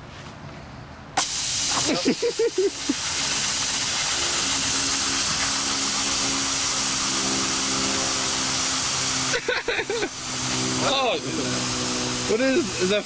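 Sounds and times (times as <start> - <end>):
gas hissing under pressure: 1.2 - 13.0.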